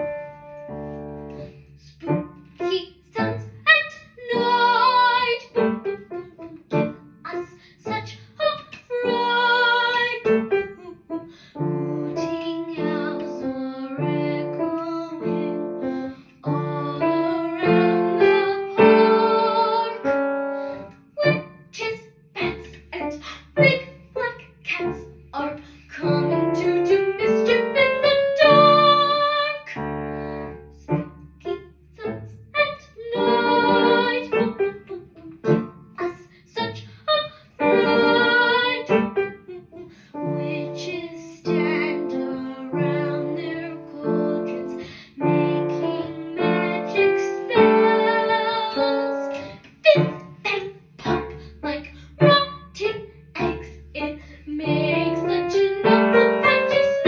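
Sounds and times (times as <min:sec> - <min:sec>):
piano accompaniment: 0:00.0 - 0:57.0
girl singing with vibrato: 0:01.4 - 0:57.0.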